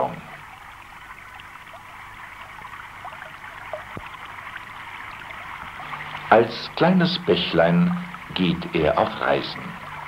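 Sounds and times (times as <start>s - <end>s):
brook trickling over stones: 0.0s - 10.0s.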